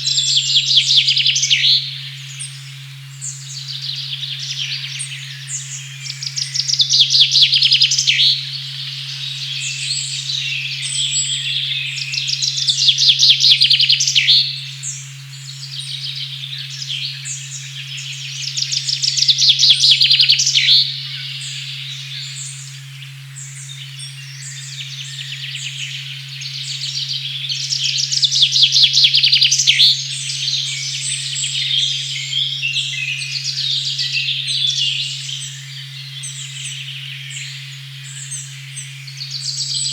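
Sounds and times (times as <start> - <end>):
songbirds singing: 0.0 - 39.9
steady low sine tone: 0.0 - 39.9.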